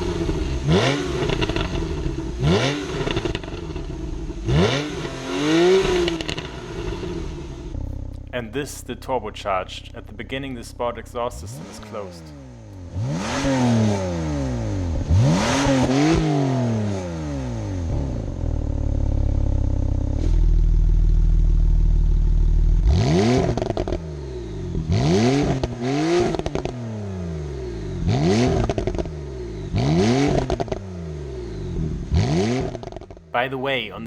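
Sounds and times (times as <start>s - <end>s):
car engine revving: 0.0s - 33.8s.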